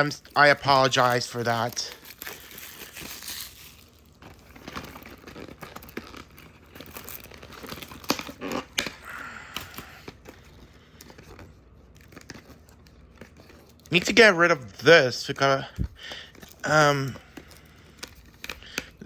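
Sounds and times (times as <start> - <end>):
plastic wrapping crinkling and tearing: 0.0 - 19.0.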